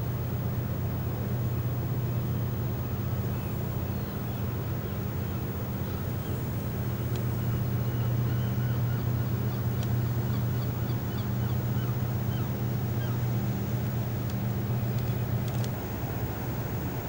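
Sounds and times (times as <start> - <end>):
ship engines humming: 0.0 - 17.0.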